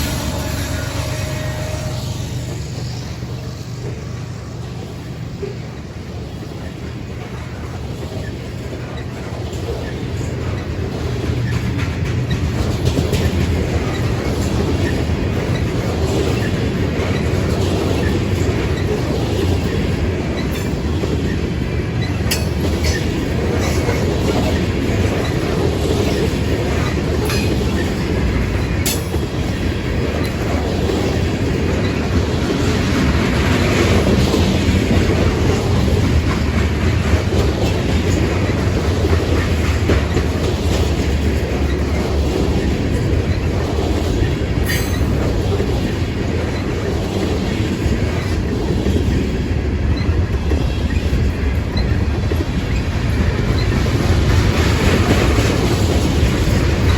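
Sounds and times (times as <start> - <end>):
steel wheels rumbling on rails: 0.0 - 56.9
wheels clicking and clattering: 2.9 - 56.9.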